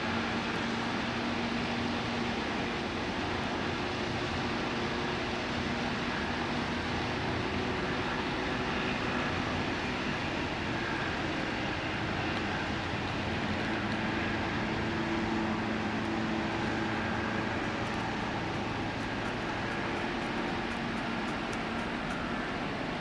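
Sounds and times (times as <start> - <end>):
ship engines droning: 0.0 - 23.0.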